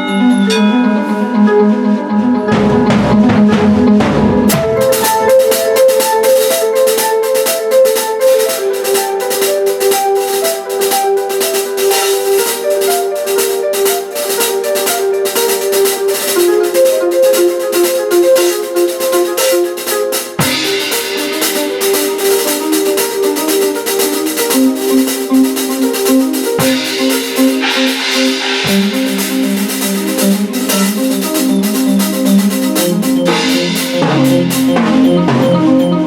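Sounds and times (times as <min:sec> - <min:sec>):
stepping pitched melody: 0:00.0 - 0:36.0
drum kit with cymbals: 0:02.4 - 0:36.0.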